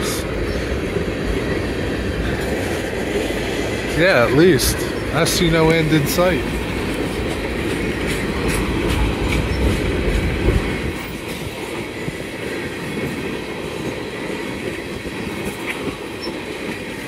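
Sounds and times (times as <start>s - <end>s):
steel wheels rumbling on rails: 0.0s - 17.0s
wheels clicking over rail joints: 2.2s - 17.0s.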